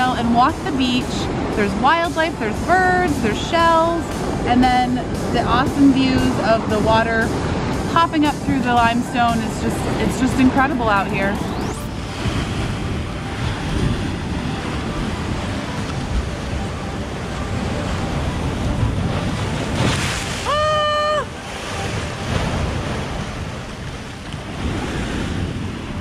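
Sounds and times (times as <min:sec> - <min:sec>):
water rushing between rocks: 0:00.0 - 0:26.0
waves breaking over rocks: 0:00.0 - 0:26.0
wind buffeting microphone: 0:00.0 - 0:26.0.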